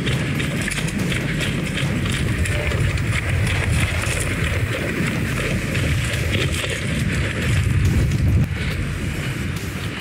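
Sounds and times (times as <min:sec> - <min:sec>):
gear rustling: 0:00.0 - 0:10.0
running footfalls: 0:00.0 - 0:10.0
wind rumble on microphone: 0:00.0 - 0:10.0.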